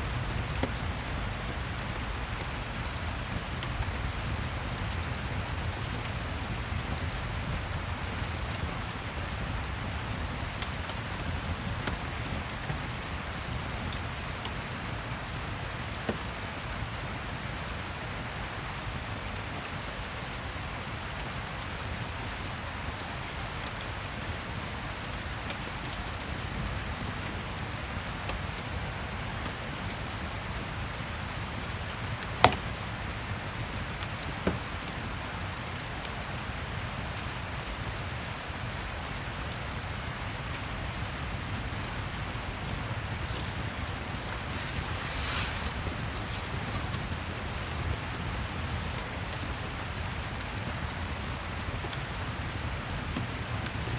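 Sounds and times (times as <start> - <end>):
fireplace crackling: 0.0 - 53.9
steady rain: 0.0 - 53.9.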